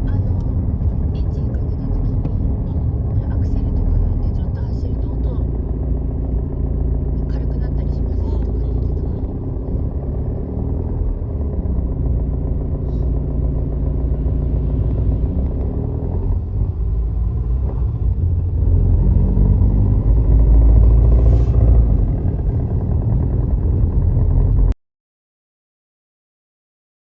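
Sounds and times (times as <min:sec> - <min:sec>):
diesel engine running: 0:00.0 - 0:24.8.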